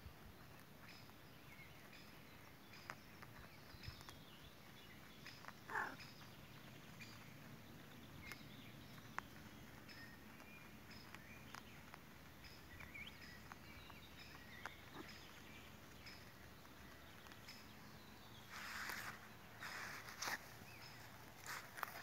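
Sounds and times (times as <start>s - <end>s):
rustle in grass: 0.1s - 22.0s
small ticks: 0.4s - 22.0s.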